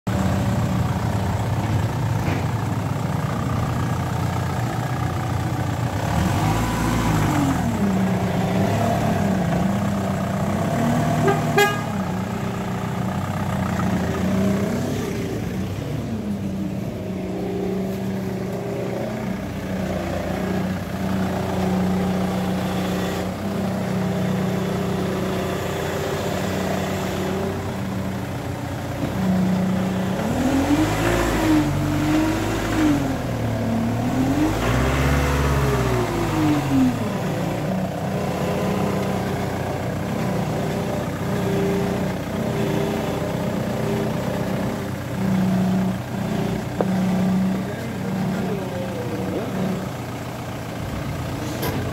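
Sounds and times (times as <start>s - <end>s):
car engine running: 0.1s - 51.9s.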